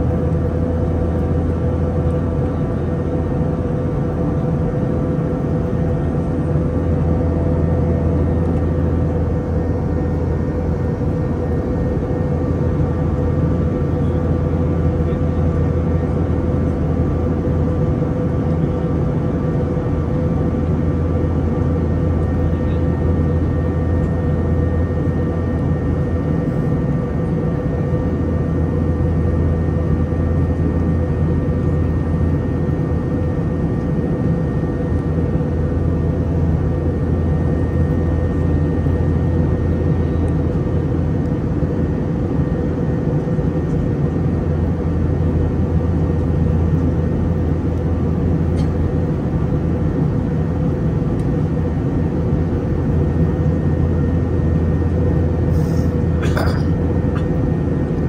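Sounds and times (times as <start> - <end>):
airliner cabin drone: 0.0 - 58.0.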